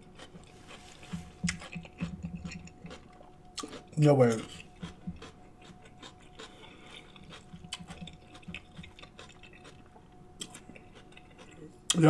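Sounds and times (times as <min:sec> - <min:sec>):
chewing with mouth clicks: 0:00.0 - 0:12.0.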